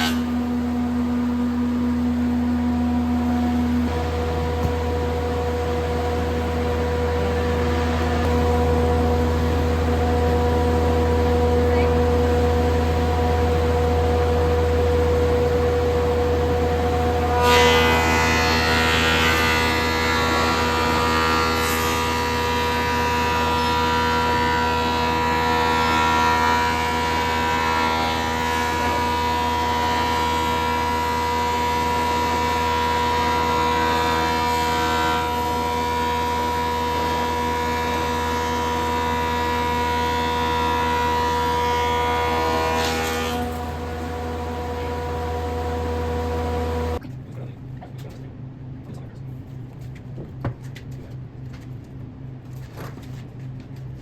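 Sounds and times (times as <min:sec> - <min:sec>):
woodworking machine humming: 0:00.0 - 0:47.0.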